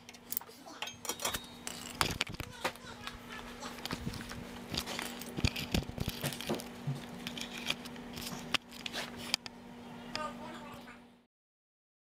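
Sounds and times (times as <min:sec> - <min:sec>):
faint electrical hum: 0:00.0 - 0:11.3.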